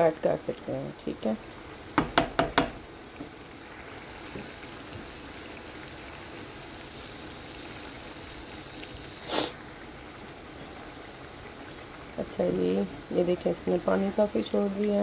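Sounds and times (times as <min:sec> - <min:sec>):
chicken sizzling in frying pan: 0:01.0 - 0:15.0.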